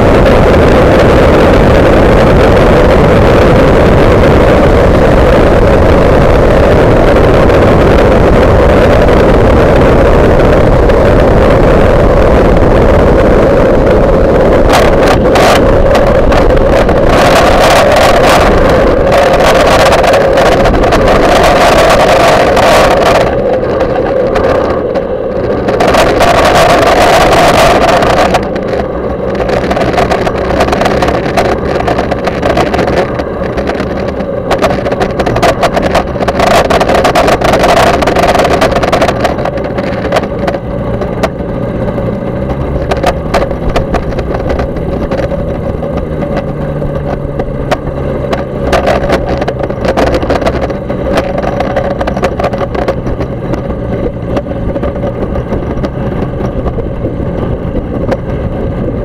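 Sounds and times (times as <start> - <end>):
light aircraft engine running: 0.0 - 59.0
wind noise on microphone: 0.0 - 59.0.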